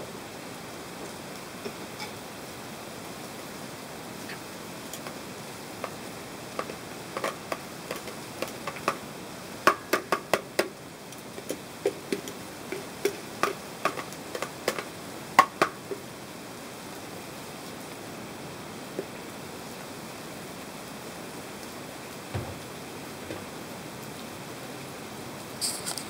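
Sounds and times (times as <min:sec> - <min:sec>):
steady grill hiss: 0:00.0 - 0:26.0.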